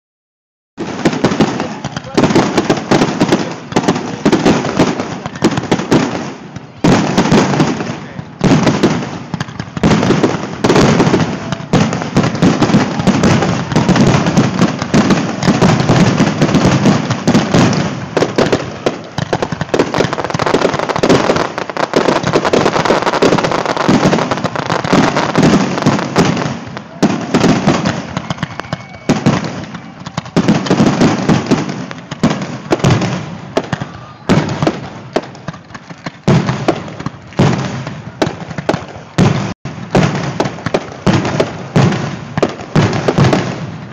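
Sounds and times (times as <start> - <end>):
fireworks bangs and crackling: 0.8 - 43.9.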